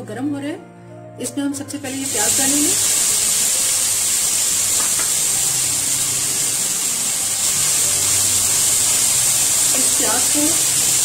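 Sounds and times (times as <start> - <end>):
onions sizzling in hot oil: 1.8 - 11.0.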